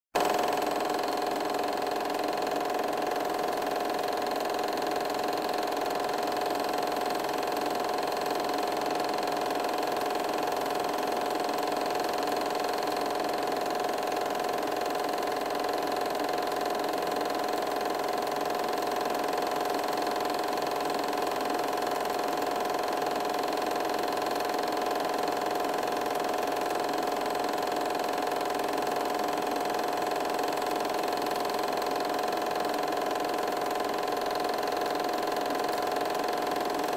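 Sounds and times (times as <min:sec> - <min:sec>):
film projector whirring: 0:00.2 - 0:36.9.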